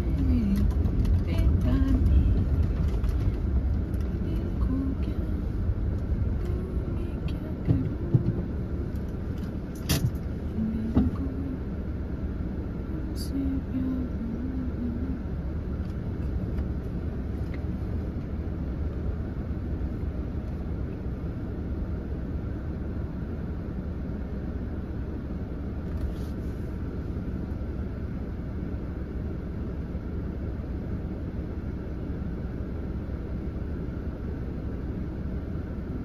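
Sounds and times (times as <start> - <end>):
car idling from inside cabin: 0.0 - 36.0.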